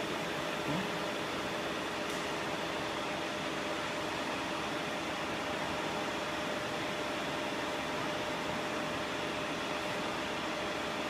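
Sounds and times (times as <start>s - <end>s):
faint machinery hum: 0.0s - 11.0s.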